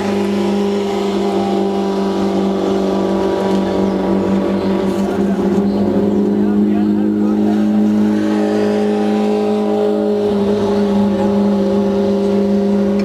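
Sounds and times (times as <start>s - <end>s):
buggy engine running steadily: 0.0s - 13.0s.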